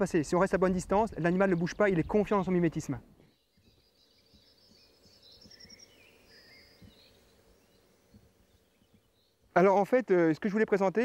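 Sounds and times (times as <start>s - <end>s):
faint birdsong: 0.0s - 11.0s
woodland ambience: 0.0s - 11.0s.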